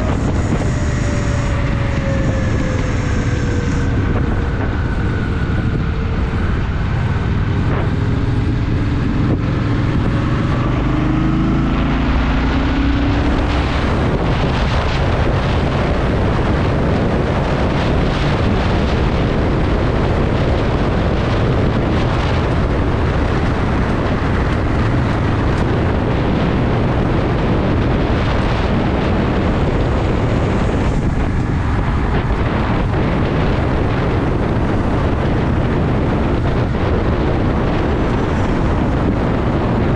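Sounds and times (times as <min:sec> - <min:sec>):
motorcycle engine accelerating: 0:00.0 - 0:39.9
wind rushing: 0:00.0 - 0:39.9.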